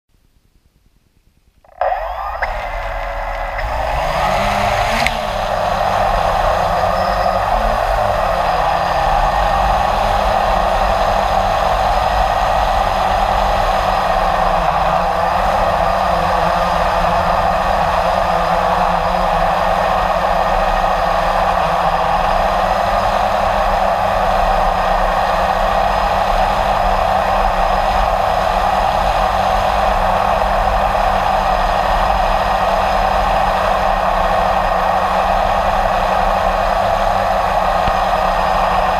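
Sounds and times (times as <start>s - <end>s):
drone motors and propellers: 1.6s - 38.9s.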